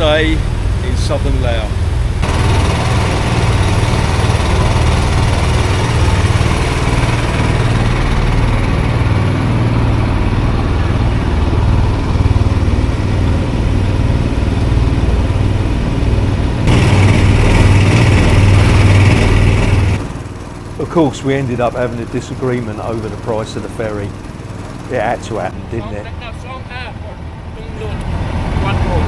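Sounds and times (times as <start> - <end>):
boat engine rumbling: 0.0 - 29.0.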